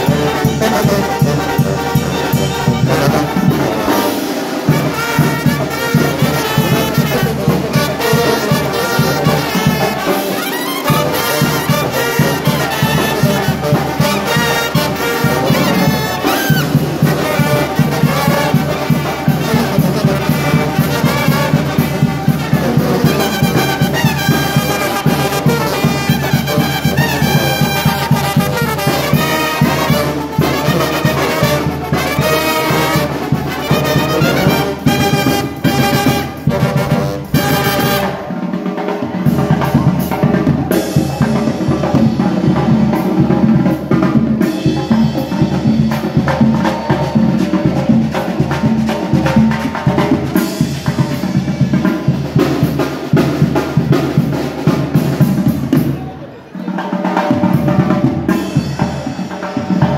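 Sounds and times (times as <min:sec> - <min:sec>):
brass band playing loudly: 0:00.0 - 0:59.9
steady drum beat: 0:00.0 - 0:59.9
trombones: 0:00.0 - 0:59.9
trumpets: 0:00.0 - 0:59.9.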